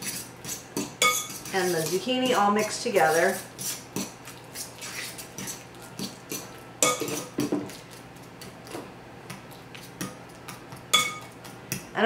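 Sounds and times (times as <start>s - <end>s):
fork stirring thick mash: 0.0s - 11.9s.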